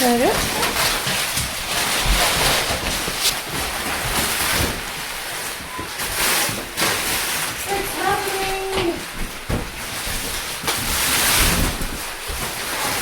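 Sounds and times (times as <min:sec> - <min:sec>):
plastic crinkles: 0:00.0 - 0:13.0
plastic wrapping rustling: 0:00.0 - 0:13.0.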